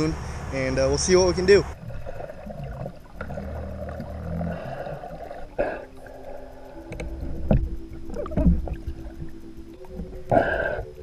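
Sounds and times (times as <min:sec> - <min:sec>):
steady low tones: 0:00.0 - 0:11.0
churning water underwater: 0:01.7 - 0:11.0.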